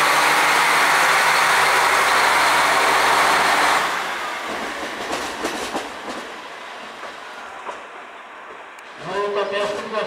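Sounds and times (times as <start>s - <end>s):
train diesel engine running: 0.0s - 10.0s.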